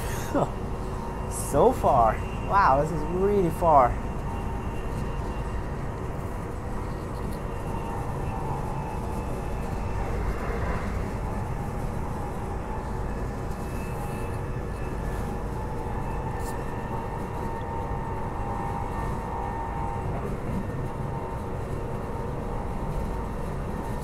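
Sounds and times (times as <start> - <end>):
electric drive whine: 0.0 - 24.0
train wheels rumbling on track: 0.0 - 24.0.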